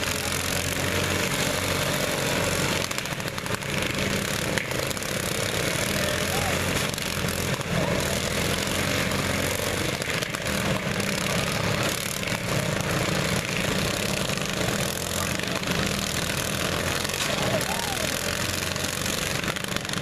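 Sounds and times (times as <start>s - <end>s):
lawn mower engines droning: 0.0s - 20.0s.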